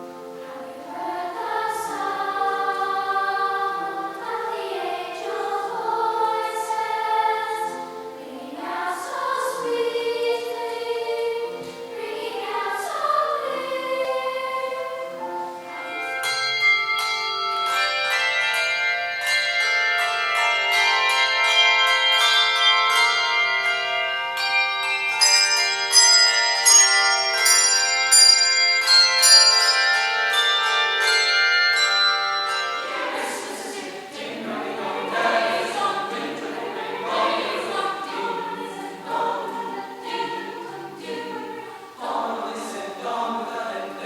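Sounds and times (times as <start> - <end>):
bells ringing a melody: 0.0 - 44.0
choir singing: 0.0 - 44.0.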